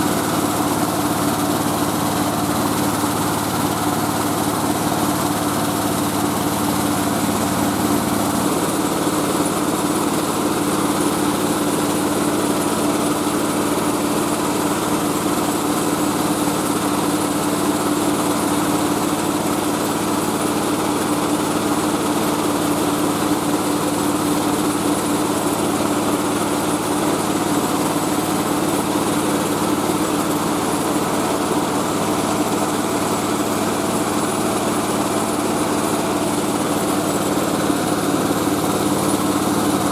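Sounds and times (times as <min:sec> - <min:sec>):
rice milling machine droning: 0:00.0 - 0:39.9.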